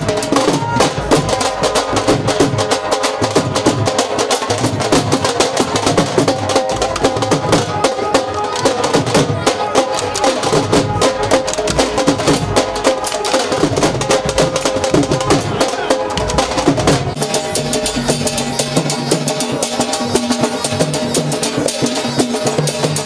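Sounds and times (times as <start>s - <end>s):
drums beaten with sticks: 0.0s - 23.0s.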